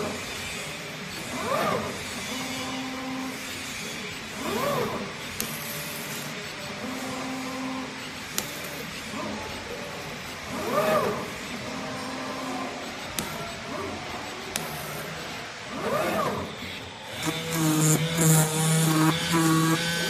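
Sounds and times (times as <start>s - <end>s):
drive motors whining: 0.0s - 20.0s
steady machine hum: 0.0s - 20.0s.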